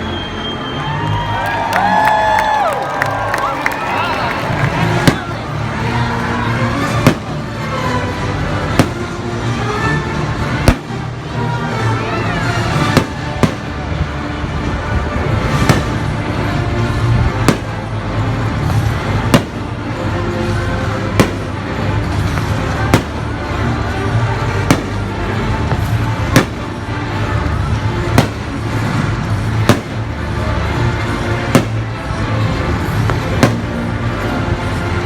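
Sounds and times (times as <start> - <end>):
loud music: 1.2 - 35.0
fireworks bangs: 2.0 - 7.8, 8.4 - 9.6, 10.2 - 11.4, 12.4 - 35.0.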